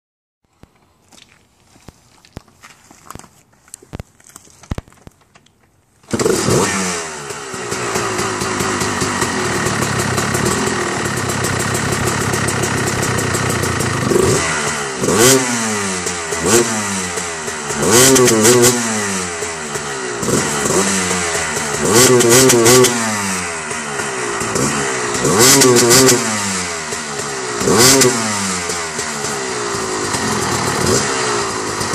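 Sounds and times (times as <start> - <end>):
dirt bike engine revving: 6.1 - 31.9.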